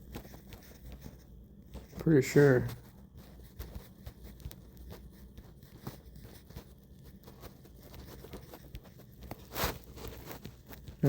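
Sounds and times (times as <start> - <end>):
low steady hum: 0.0 - 11.0
small clicks and handling noises: 0.0 - 11.0.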